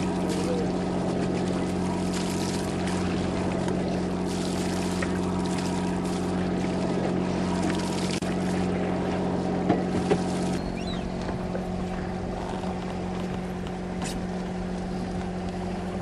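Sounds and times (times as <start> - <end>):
boat engine running: 0.0 - 16.0
wind and water hiss: 0.0 - 16.0.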